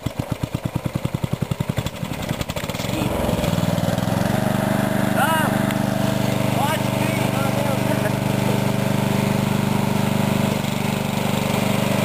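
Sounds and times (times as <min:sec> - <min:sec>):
riding mower engine running: 0:00.0 - 0:12.0.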